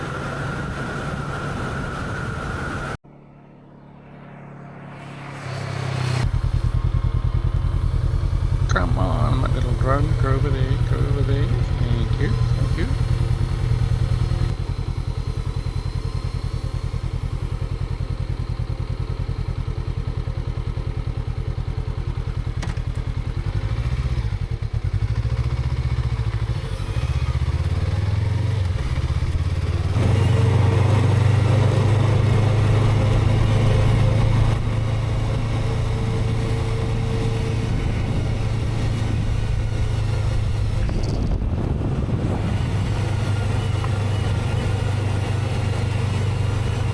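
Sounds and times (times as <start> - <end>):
motorcycle engine running: 5.2 - 46.9.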